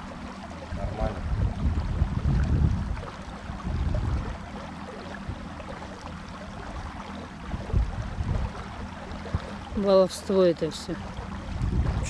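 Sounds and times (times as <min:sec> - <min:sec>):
electric motor low hum: 0:00.0 - 0:12.0
water rushing along boat hull: 0:00.0 - 0:12.0.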